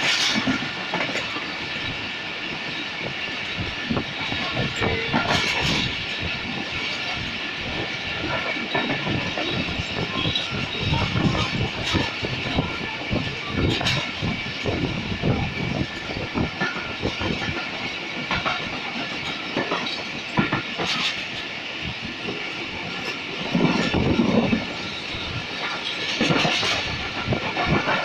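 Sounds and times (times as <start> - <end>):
train rumbling: 0.0 - 28.0
wheels clicking over rail joints: 0.0 - 28.0.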